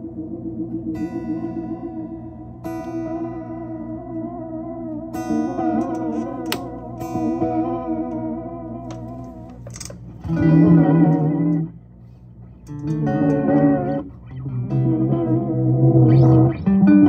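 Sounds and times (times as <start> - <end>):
electric guitar echoing chords: 0.0 - 12.0, 12.6 - 17.0.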